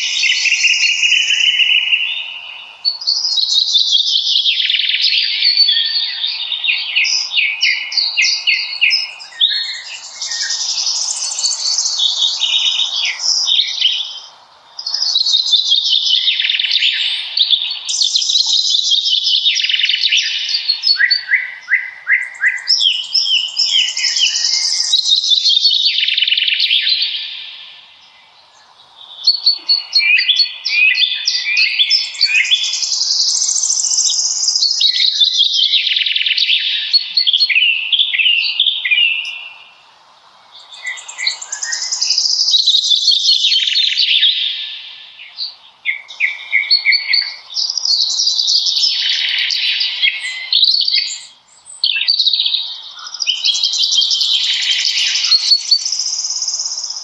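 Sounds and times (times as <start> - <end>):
songbirds warbling: 0.0 - 57.0.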